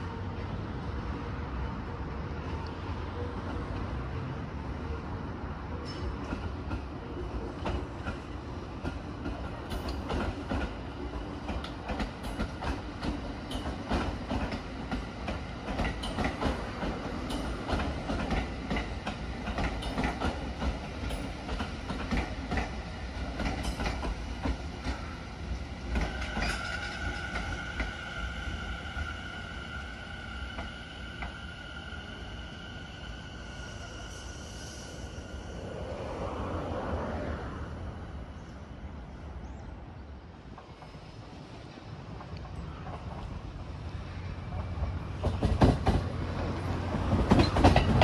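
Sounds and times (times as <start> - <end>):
electric train rumbling past: 0.0 - 48.0.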